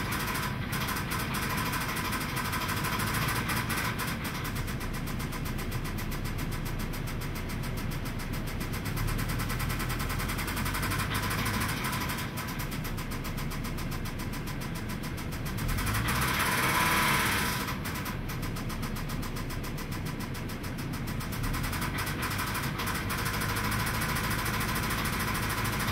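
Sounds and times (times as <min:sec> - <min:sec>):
car engine knocking: 0:00.0 - 0:25.9.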